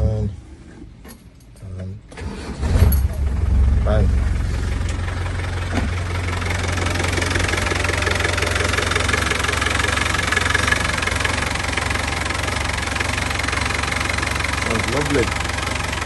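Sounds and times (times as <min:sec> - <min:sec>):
diesel engine idling: 0:03.1 - 0:16.0.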